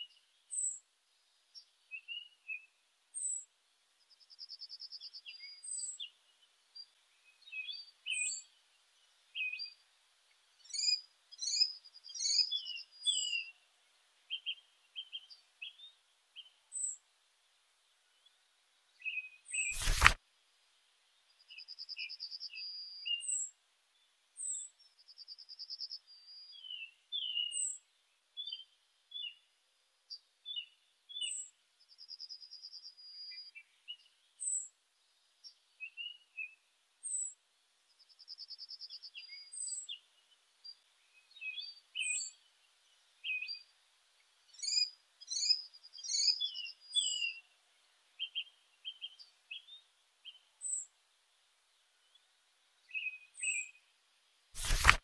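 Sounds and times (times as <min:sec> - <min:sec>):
songbirds singing and calling: 0:00.0 - 0:17.1, 0:17.8 - 0:20.2, 0:21.1 - 0:53.9.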